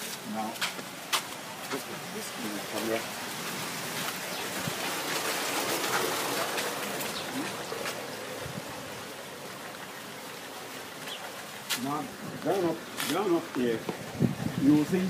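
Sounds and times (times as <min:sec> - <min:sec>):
water splashing into tanks: 0:00.0 - 0:15.0.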